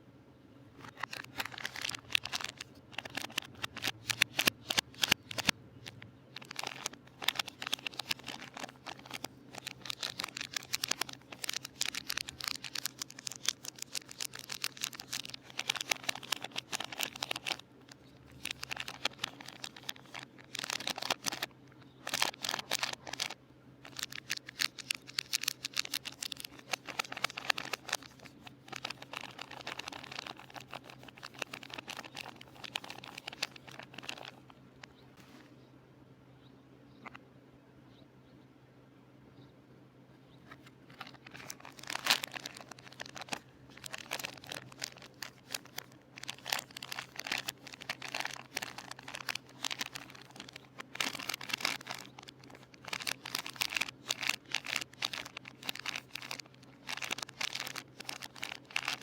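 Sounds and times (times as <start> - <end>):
packaging crinkling and tearing: 0.8 - 34.9, 40.5 - 59.0.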